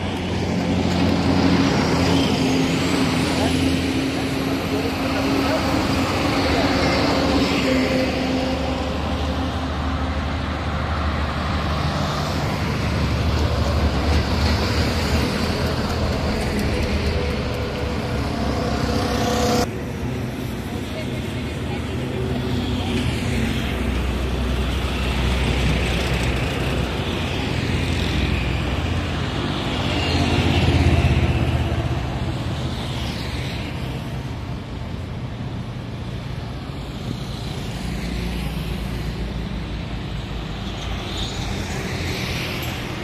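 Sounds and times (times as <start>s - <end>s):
road traffic rumbling past: 0.0s - 43.0s.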